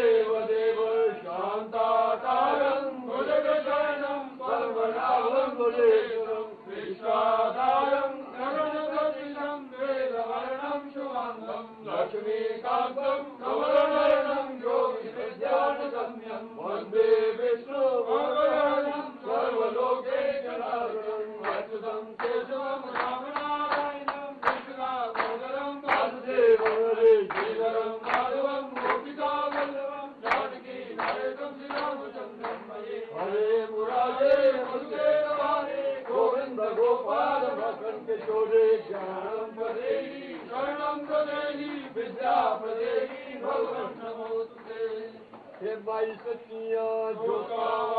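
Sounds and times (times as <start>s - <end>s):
men chanting together: 0.0s - 47.9s.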